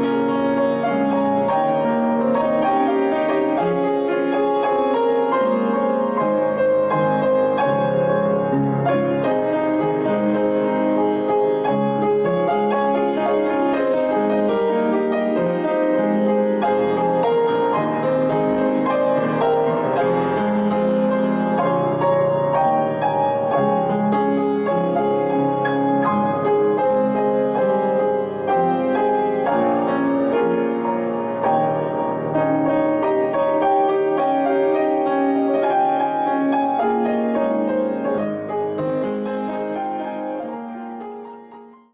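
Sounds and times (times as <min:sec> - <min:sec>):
piano music: 0:00.0 - 0:41.9.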